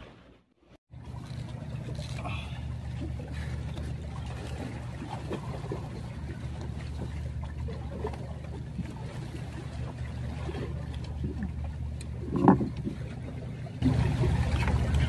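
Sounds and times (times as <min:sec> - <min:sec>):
sea water at shoreline: 0:00.0 - 0:15.0
wind: 0:00.0 - 0:15.0.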